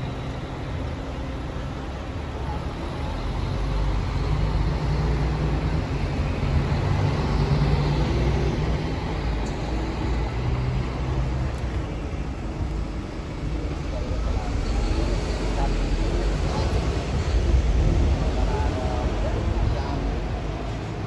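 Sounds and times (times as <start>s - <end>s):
bus driving past: 0.0s - 21.0s
cars driving past: 0.0s - 21.0s.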